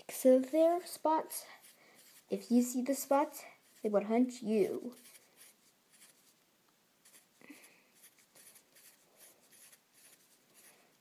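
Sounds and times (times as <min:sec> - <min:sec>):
pencil scratching on paper: 0:00.2 - 0:06.3, 0:07.0 - 0:07.3, 0:08.0 - 0:10.8.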